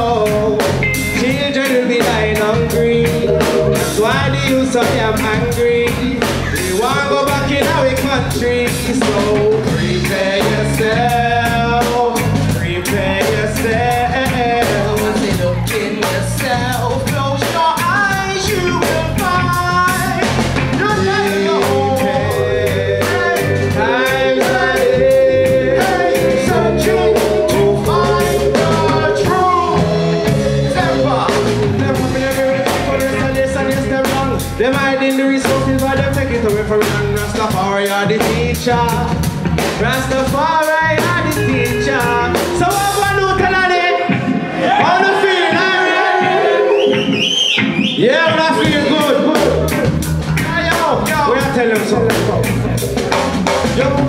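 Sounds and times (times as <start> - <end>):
person singing: 0.0 - 38.9, 39.8 - 47.2
reggae band playing: 0.0 - 54.0.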